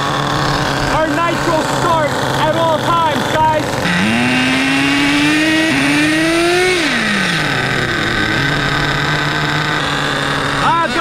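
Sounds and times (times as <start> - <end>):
small engine idling: 0.0 - 11.0
small engine revving: 0.0 - 11.0.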